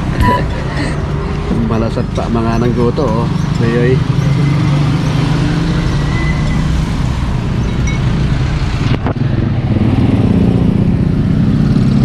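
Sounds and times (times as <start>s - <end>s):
motorcycle engines: 0.0s - 12.0s
road traffic: 0.0s - 12.0s.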